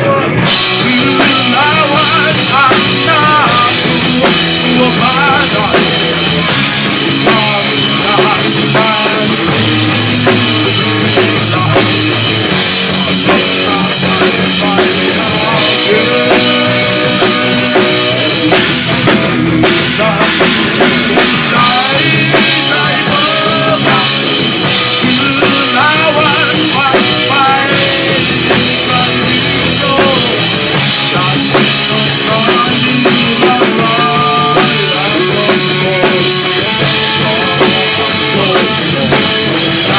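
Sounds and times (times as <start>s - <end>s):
rock band music: 0.0s - 39.9s.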